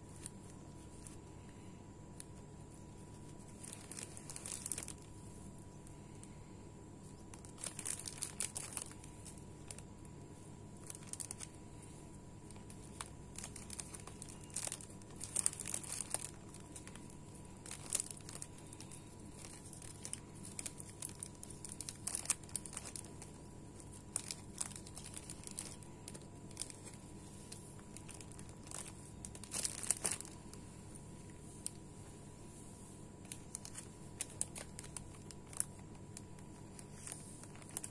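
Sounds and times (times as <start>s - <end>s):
cellophane bags crinkling: 0.0s - 32.0s, 33.1s - 37.9s.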